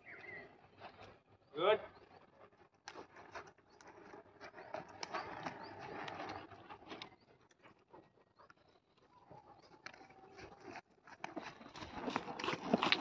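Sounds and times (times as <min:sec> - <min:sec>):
birds chirping: 0:00.0 - 0:13.0
horse hooves trotting on dirt: 0:02.0 - 0:13.0.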